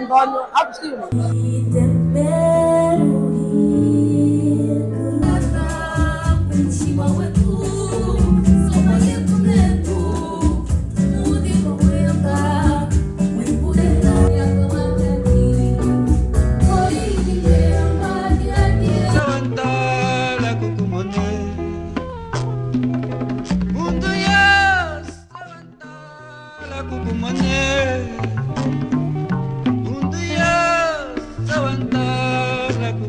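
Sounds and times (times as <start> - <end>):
band with guitar and beat: 5.2 - 25.4, 26.6 - 33.0.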